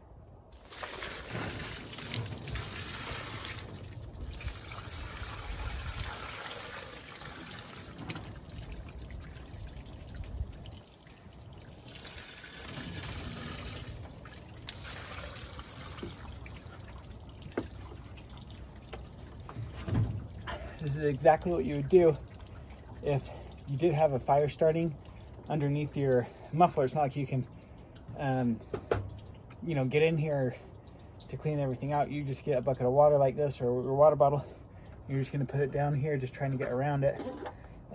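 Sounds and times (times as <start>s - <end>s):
water splashing and trickling: 0.5s - 37.9s.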